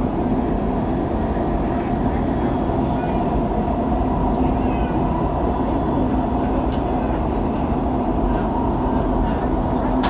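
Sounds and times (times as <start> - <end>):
train rumbling inside carriage: 0.0 - 10.0.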